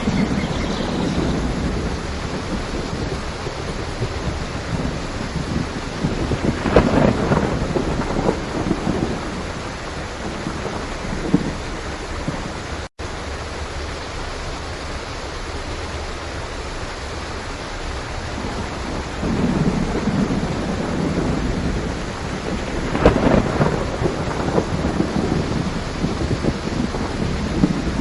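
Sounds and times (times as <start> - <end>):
thunder rumbling and clapping: 0.0 - 12.8, 18.3 - 28.0
steady rain: 0.0 - 28.0.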